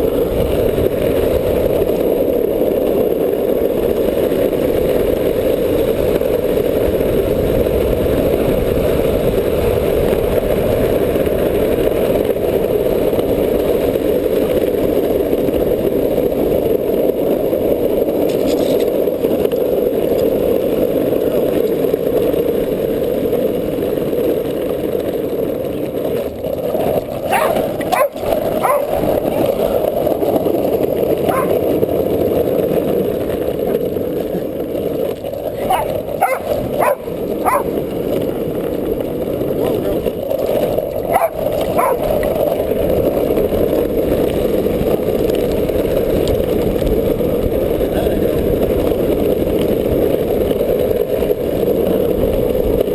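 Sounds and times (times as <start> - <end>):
skateboard wheels rolling on asphalt: 0.0 - 52.9.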